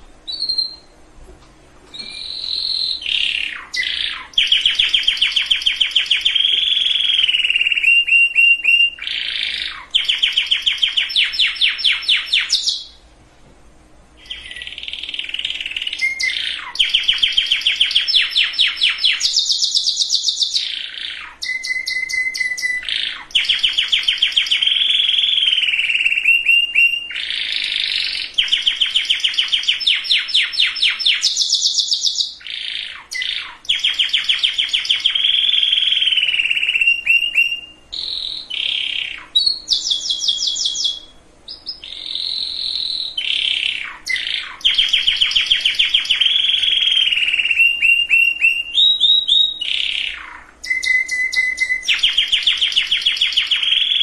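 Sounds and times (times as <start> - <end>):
canary singing trills: 0.0 - 1.1, 1.9 - 13.1, 14.1 - 54.0.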